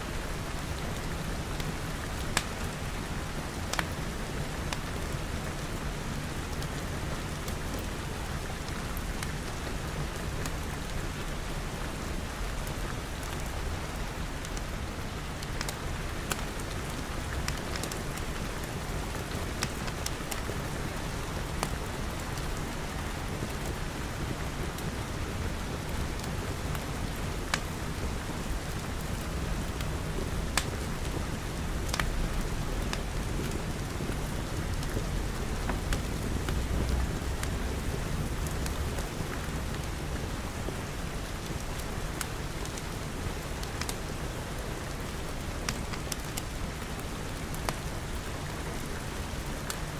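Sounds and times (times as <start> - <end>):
steady rain: 0.0 - 49.9
wood fire crackling: 0.2 - 5.6, 6.3 - 49.9.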